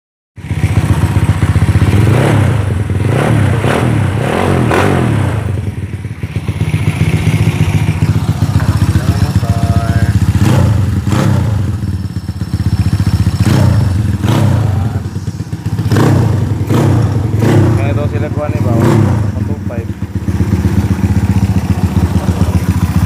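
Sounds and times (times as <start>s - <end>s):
motorcycle engine idling: 0.4s - 23.0s
motorcycle throttle revs: 0.4s - 23.0s.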